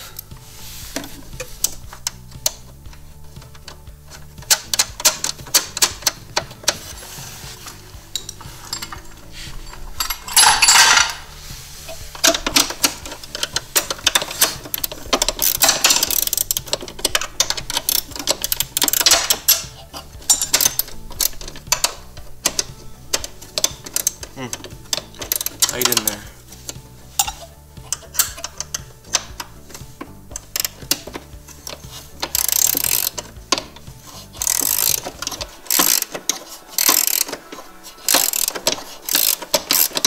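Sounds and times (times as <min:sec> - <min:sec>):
metal tools clinking: 0:00.0 - 0:40.0
ratchet wrench clicking: 0:00.0 - 0:40.0.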